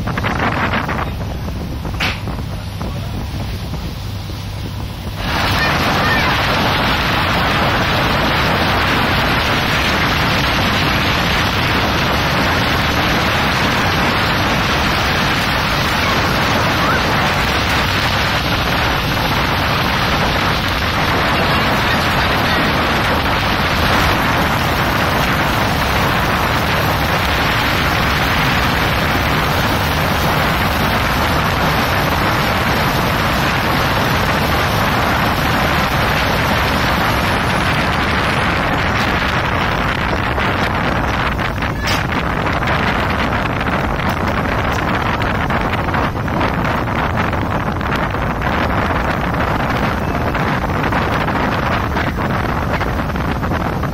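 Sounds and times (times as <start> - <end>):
boat engine drone: 0.0 - 53.9
rushing water: 0.0 - 53.9
wind buffeting microphone: 0.0 - 53.9.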